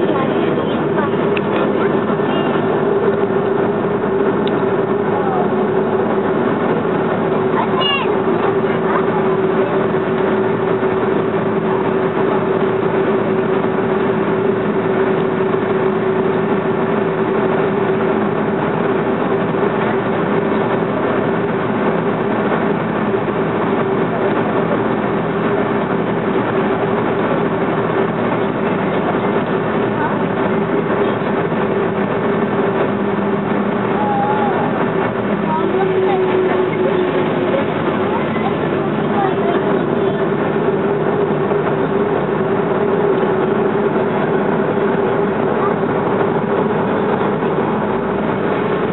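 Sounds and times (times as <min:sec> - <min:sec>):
jet engine cabin hum: 0:00.0 - 0:48.9.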